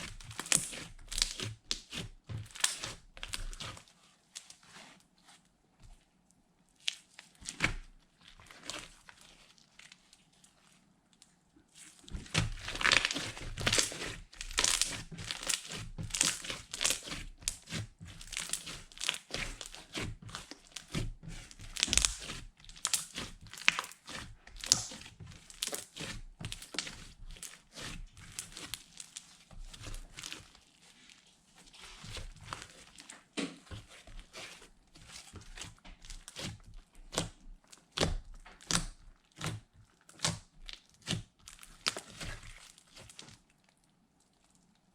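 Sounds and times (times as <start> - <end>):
slime squished by hand: 0.0 - 5.4, 6.8 - 10.8, 11.7 - 44.9.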